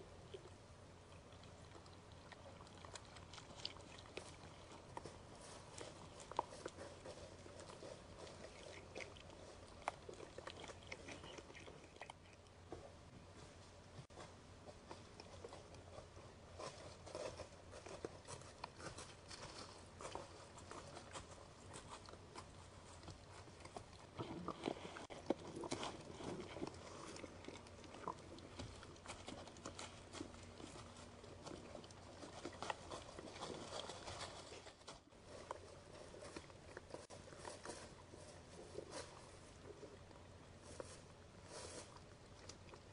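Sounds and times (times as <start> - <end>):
animal chewing seed: 0.0 - 42.9.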